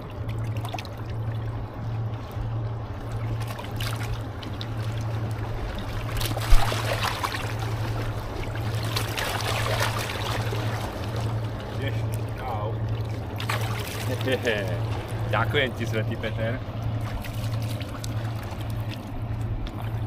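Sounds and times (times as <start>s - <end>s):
low hum: 0.0s - 20.0s
water splashing and trickling: 0.0s - 20.0s.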